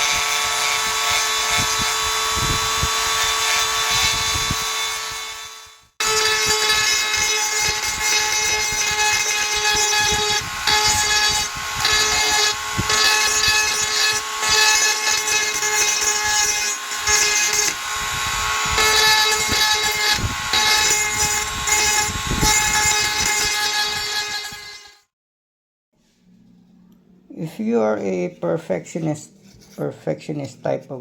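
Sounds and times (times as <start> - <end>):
power grinder whining: 0.0 - 25.0.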